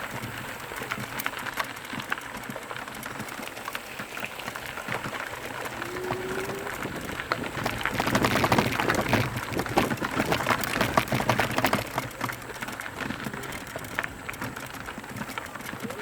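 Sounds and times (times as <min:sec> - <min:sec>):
bike rattling clicks: 0:00.0 - 0:16.0
tyres crunching over gravel: 0:00.0 - 0:16.0.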